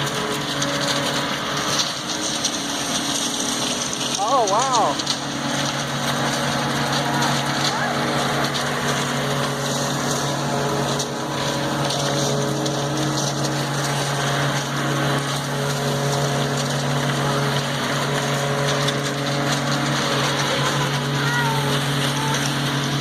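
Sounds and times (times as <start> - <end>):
motor humming steadily: 0.0 - 23.0.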